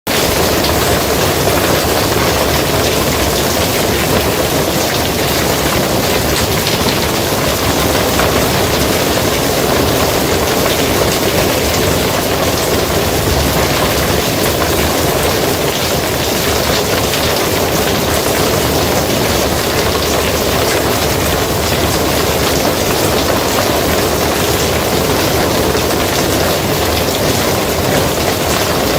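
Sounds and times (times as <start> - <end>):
rain on a roof: 0.1 - 28.9.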